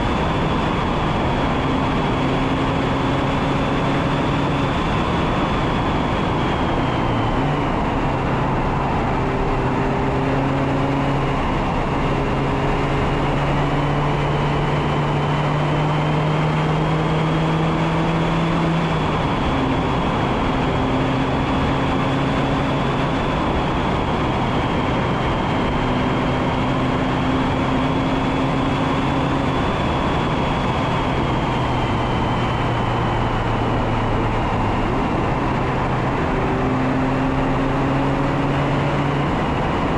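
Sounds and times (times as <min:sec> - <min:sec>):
road noise: 0:00.0 - 0:39.9
wind noise: 0:00.0 - 0:39.9.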